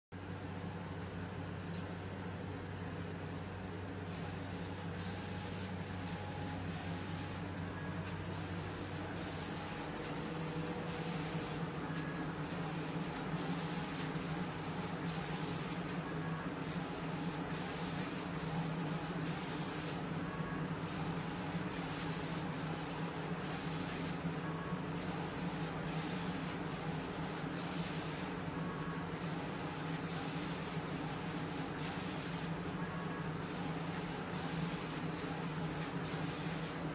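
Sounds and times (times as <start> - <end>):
low machine hum: 0.2 - 36.9.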